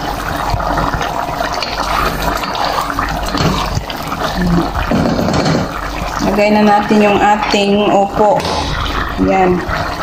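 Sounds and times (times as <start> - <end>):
broth boiling in a pot: 0.0 - 10.0.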